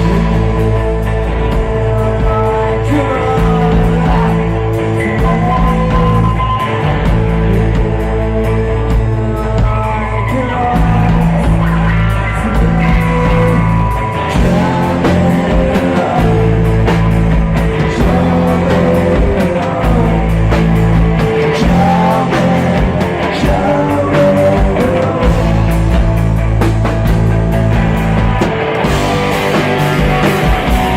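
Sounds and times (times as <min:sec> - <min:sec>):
rock band playing live: 0:00.0 - 0:30.9
sustained bass notes: 0:00.0 - 0:30.9.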